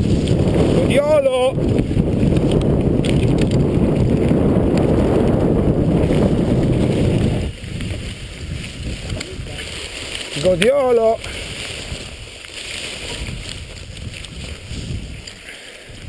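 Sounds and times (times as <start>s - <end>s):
bike tyres on rough trail: 0.0s - 16.0s
wind buffeting microphone: 0.0s - 16.0s.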